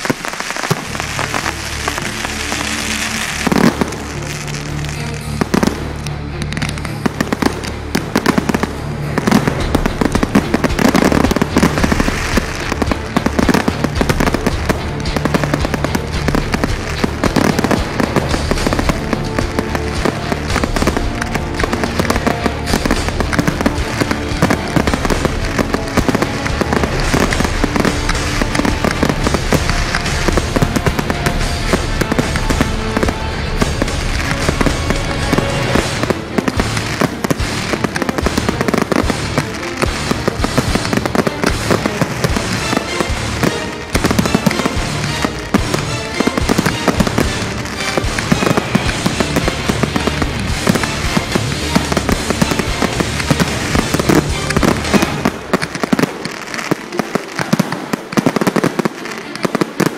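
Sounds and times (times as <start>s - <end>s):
fireworks bursting and crackling: 0.0s - 59.9s
music playing: 0.0s - 59.9s.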